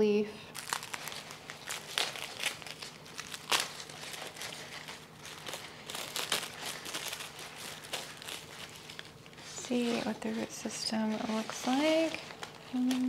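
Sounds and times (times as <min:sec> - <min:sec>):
plastic wrapping crinkling: 0:00.4 - 0:13.0.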